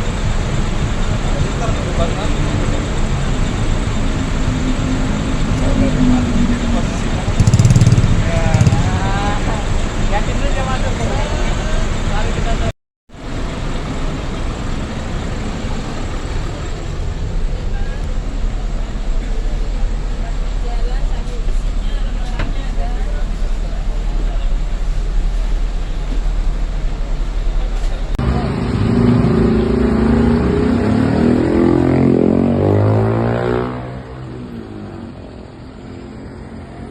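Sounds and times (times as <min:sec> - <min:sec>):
bus engine rumble: 0:00.0 - 0:36.9
road noise: 0:00.0 - 0:36.9.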